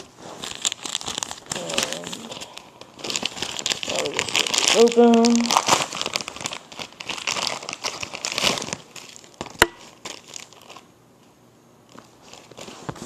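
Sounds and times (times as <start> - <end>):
packaging crinkling: 0.0 - 10.9, 11.9 - 13.0.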